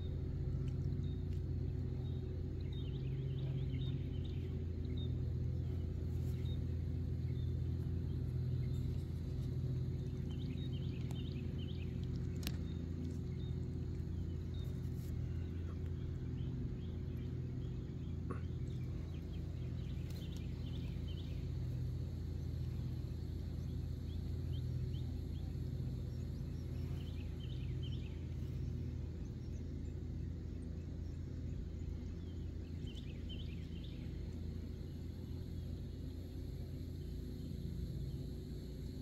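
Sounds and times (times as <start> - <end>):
small birds chirping: 0.0 - 38.0
steady low hum: 0.0 - 39.0.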